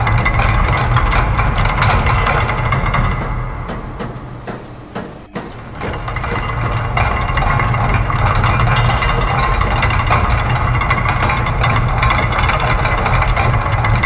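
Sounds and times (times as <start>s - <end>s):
low machine hum: 0.0s - 14.0s
machines ticking and clattering: 0.0s - 14.0s.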